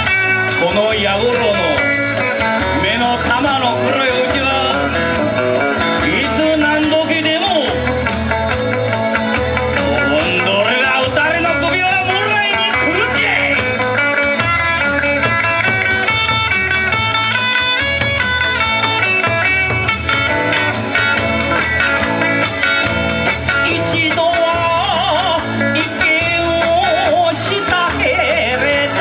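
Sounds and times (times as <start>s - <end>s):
electric guitar melody: 0.0s - 29.0s
steady drum beat: 0.0s - 29.0s.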